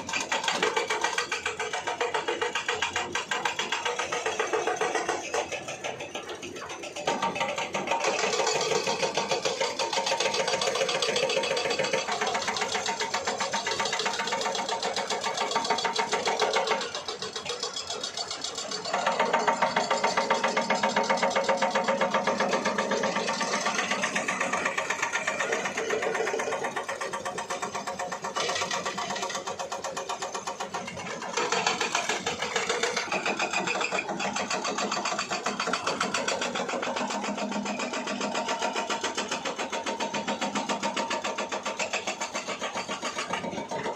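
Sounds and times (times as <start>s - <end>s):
engine clattering: 0.0s - 43.9s.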